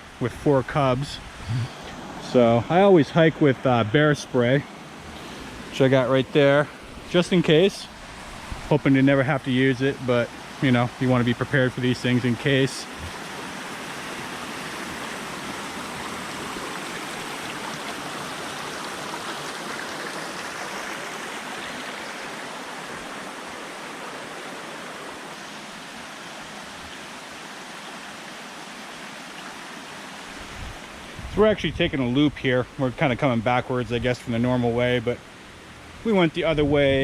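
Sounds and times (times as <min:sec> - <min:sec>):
stream rushing over rocks: 0:00.0 - 0:37.0.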